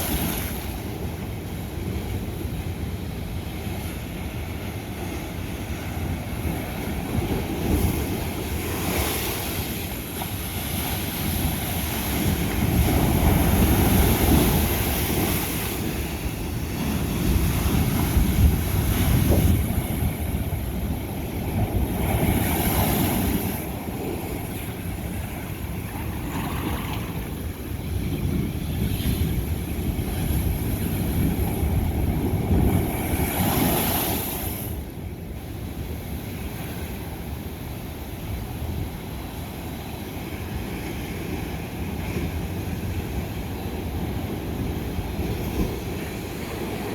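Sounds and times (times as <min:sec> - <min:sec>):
waves breaking on rocky shore: 0:00.0 - 0:46.9.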